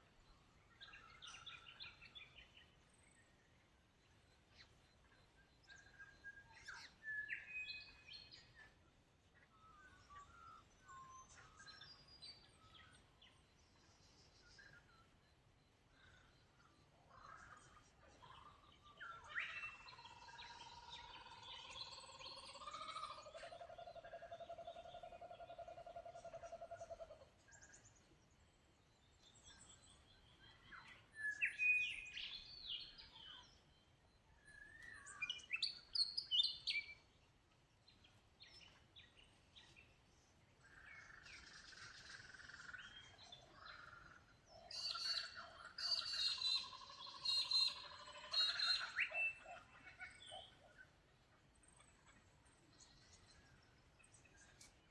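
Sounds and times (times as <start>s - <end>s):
birds singing and calling: 0.0s - 54.9s.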